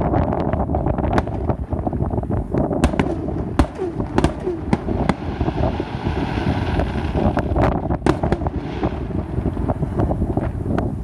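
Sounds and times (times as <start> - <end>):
firework bangs and crackles: 0.0 - 11.0
low rumble: 0.0 - 11.0.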